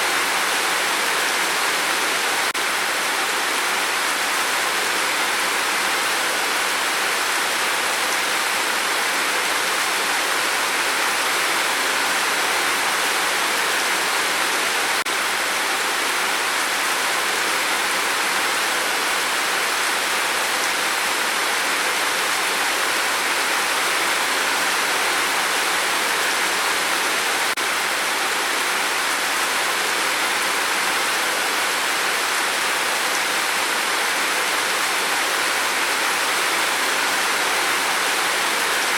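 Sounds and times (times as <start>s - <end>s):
rain on a tin roof: 0.0s - 38.9s.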